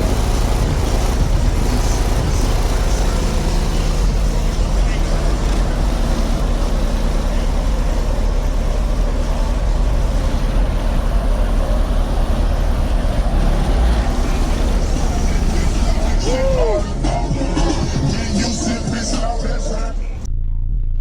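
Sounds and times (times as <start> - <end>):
loud subwoofer bass: 0.0 - 21.0.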